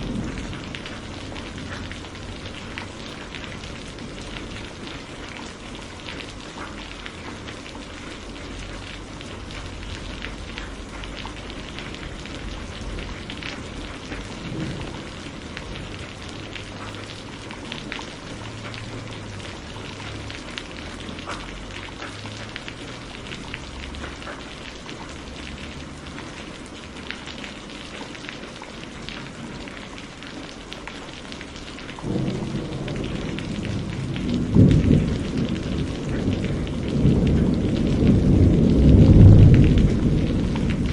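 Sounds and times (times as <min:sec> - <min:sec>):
low rumble of thunder: 0:00.0 - 0:40.9
steady rain falling: 0:00.0 - 0:40.9.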